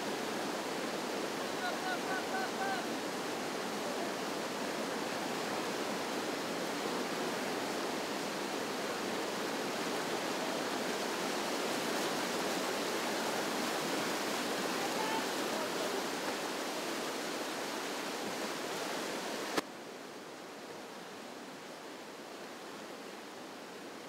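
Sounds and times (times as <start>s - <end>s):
river rapids rushing: 0.0s - 24.0s.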